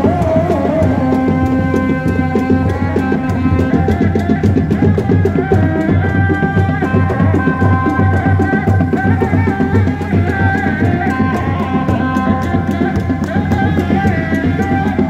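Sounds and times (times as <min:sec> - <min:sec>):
frame drums beating: 0:00.0 - 0:15.0.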